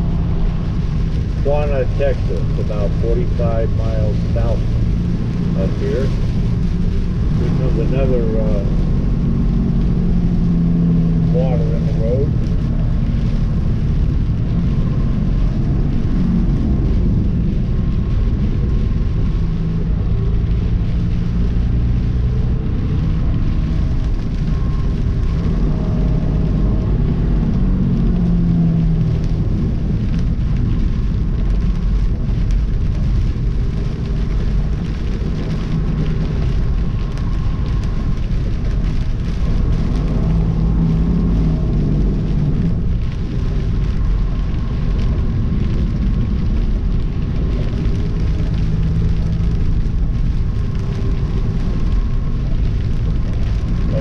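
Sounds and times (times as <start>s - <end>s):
diesel engine drone: 0.0s - 54.0s
rain noise: 0.0s - 54.0s
tyre and road noise: 0.0s - 54.0s.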